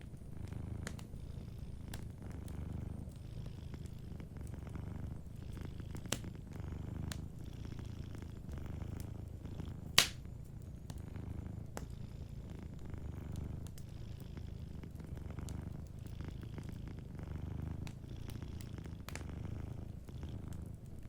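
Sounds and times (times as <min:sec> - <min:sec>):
cat purring: 0:00.0 - 0:21.0
fire snapping and popping: 0:00.0 - 0:21.0
wood fire crackling: 0:00.0 - 0:21.0.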